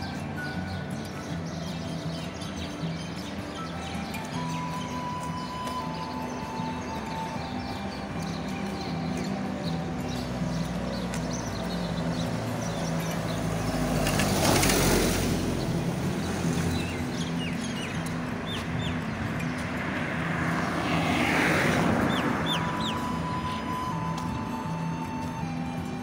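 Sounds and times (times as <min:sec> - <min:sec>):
small birds chirping: 0:00.0 - 0:26.0
vehicles passing on street: 0:00.0 - 0:26.0.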